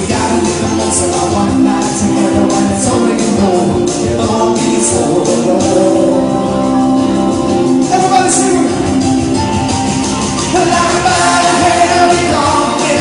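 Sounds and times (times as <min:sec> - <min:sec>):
singer: 0:00.0 - 0:09.2, 0:10.3 - 0:13.0
live rock band playing: 0:00.0 - 0:13.0.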